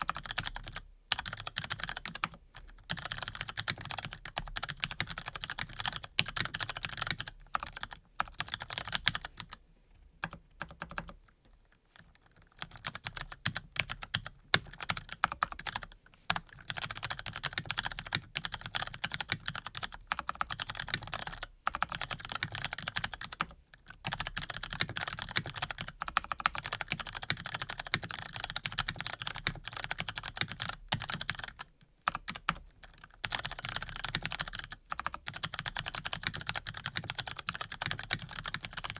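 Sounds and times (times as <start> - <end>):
typing on mechanical keyboard: 0.0 - 9.6, 10.2 - 11.2, 12.2 - 38.9.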